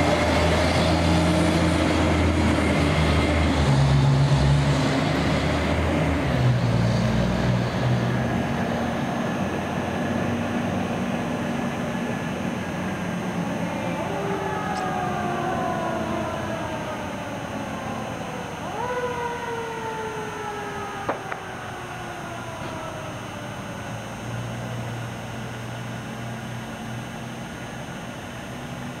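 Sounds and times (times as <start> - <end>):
fire engine driving: 0.0 - 29.0
traffic and road noise: 0.0 - 29.0.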